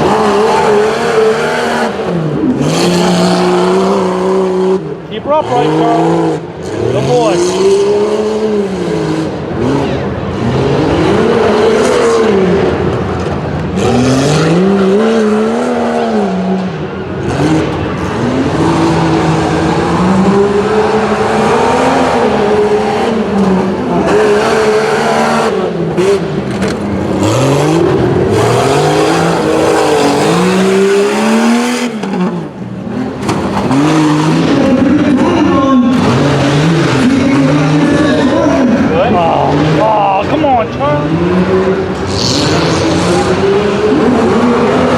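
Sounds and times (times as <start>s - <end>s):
car engine revving hard: 0.0s - 44.9s.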